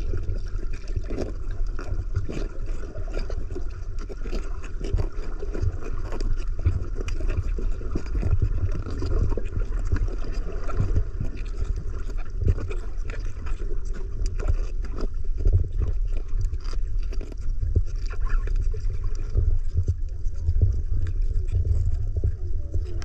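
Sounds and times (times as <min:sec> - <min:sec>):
clicks and crackles: 0:00.0 - 0:23.0
muffled underwater water rumble: 0:00.0 - 0:23.0.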